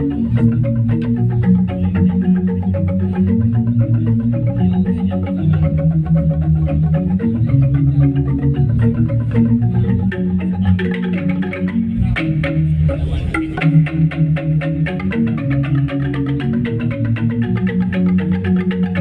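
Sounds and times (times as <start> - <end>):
gamelan ensemble playing: 0.0 - 19.0
metallophones ringing: 0.0 - 19.0.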